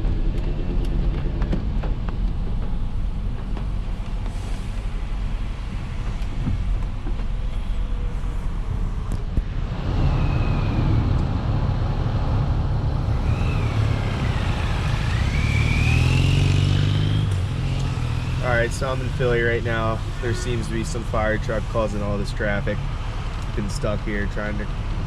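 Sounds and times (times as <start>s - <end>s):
traffic rumble inside car: 0.0s - 25.0s.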